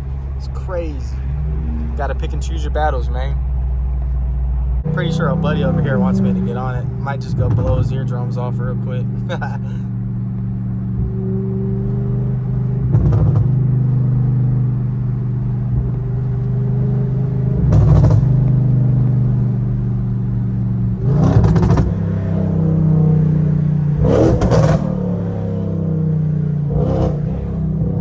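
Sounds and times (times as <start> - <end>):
engine deep drone: 0.0 - 28.0.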